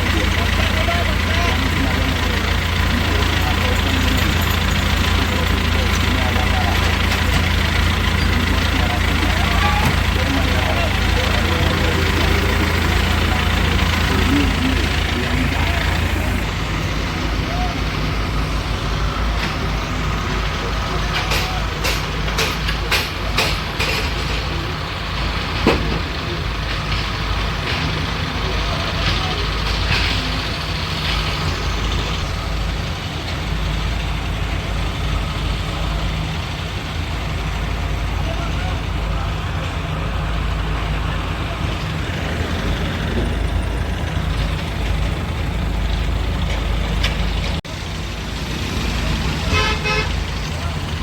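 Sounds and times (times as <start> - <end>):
heavy diesel engines running: 0.0 - 51.0.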